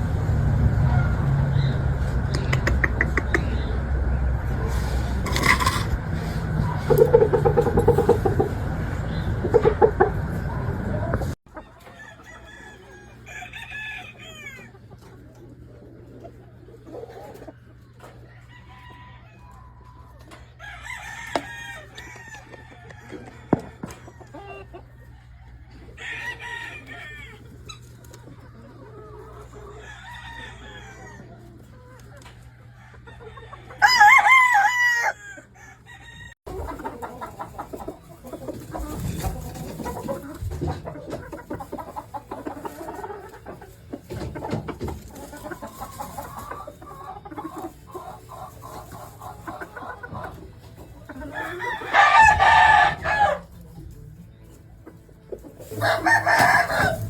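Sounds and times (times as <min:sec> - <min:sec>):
roosters crowing: 0:00.0 - 0:16.0, 0:16.6 - 0:53.7, 0:55.6 - 0:57.0
chickens clucking: 0:00.0 - 0:57.0.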